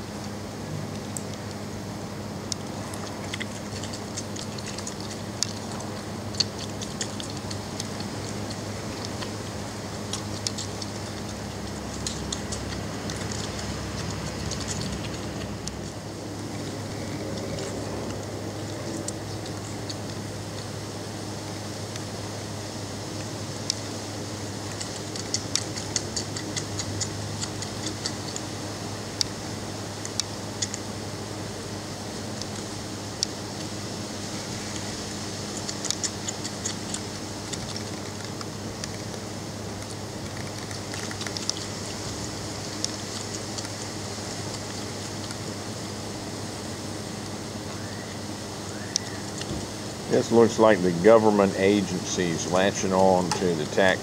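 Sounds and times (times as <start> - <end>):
steady low hum: 0.0 - 54.0
puppies nursing clicks and smacks: 0.2 - 1.6, 2.4 - 54.0.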